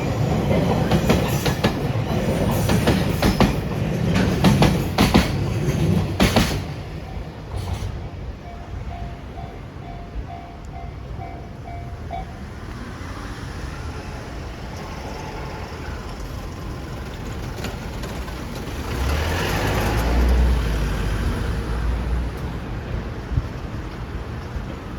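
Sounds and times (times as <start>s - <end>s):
road traffic: 0.0s - 24.9s.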